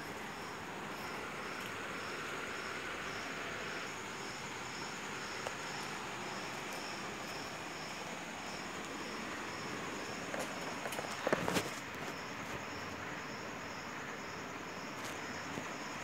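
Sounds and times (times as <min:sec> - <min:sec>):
cricket chirping: 0:00.0 - 0:16.0
outdoor background hiss: 0:00.0 - 0:16.0.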